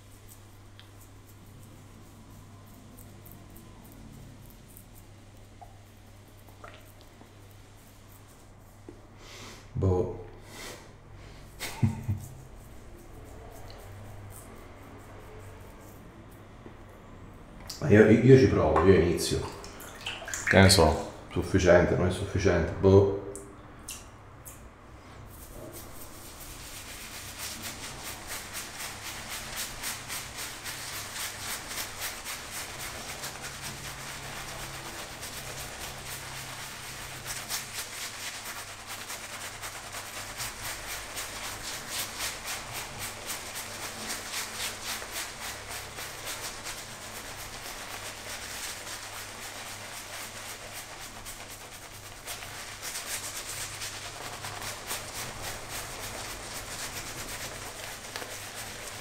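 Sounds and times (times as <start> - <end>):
shaving brush swishing lather: 0.0 - 9.0, 11.4 - 16.6, 25.1 - 59.0.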